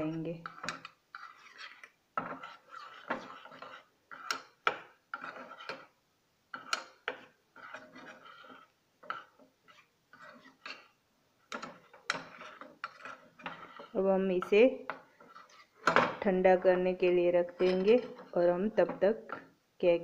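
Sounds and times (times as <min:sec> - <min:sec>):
spoon scraping metal bowl: 0:00.0 - 0:19.5.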